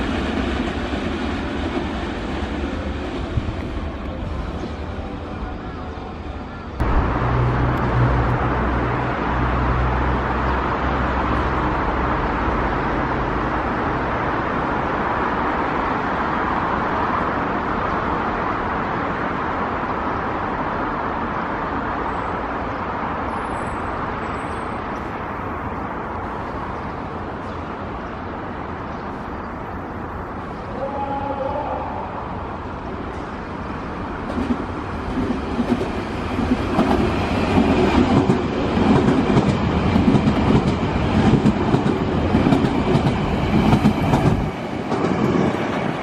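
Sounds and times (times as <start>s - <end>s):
electric train rumbling on track: 0.0s - 46.0s.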